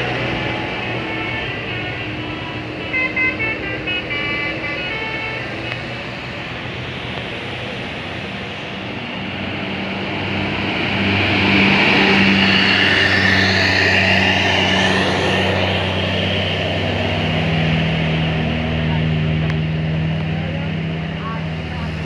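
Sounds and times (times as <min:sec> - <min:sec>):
bus diesel engine pulling uphill: 0:00.0 - 0:22.0.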